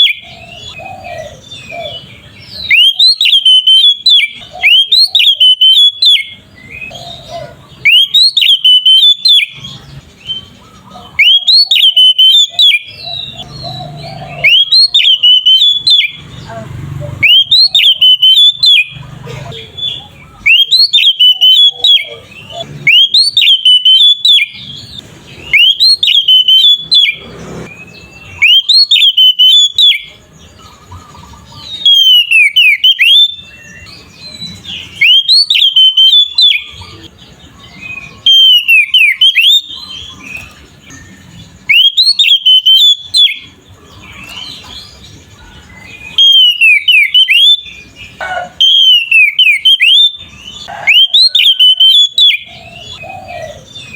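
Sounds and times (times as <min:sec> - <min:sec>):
bird singing whistled phrases: 0:00.0 - 0:30.2, 0:31.2 - 0:53.9.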